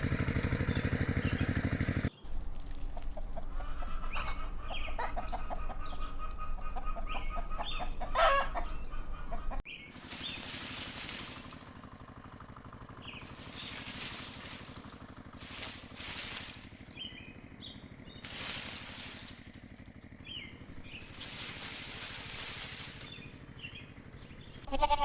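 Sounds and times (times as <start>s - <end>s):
small engine puttering: 0.0s - 25.0s.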